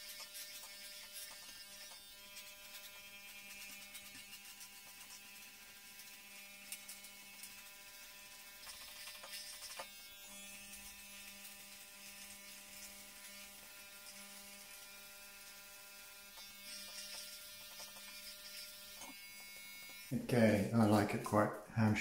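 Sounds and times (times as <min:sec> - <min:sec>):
electric hair clippers buzzing: 0:00.0 - 0:20.2.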